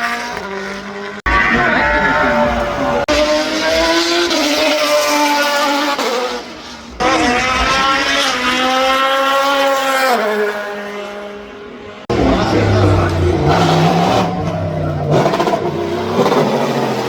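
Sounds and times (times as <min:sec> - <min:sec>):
racing car engines accelerating: 0:00.0 - 0:17.0.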